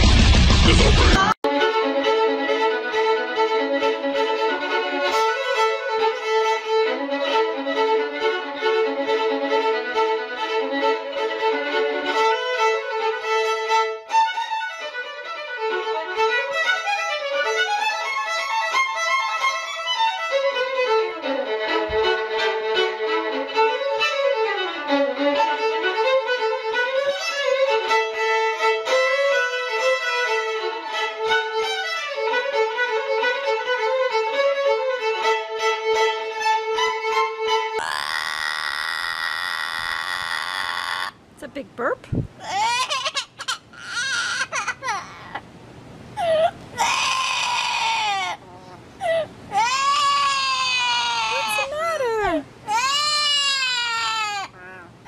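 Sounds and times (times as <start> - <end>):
bowed violin melody: 1.2 - 37.8, 46.8 - 55.0.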